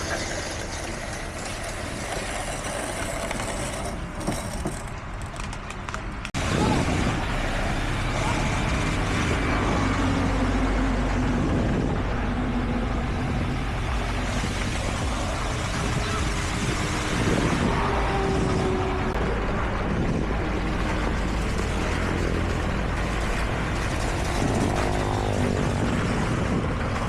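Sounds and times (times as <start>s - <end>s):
heavy machinery engine rumble: 0.0s - 27.0s.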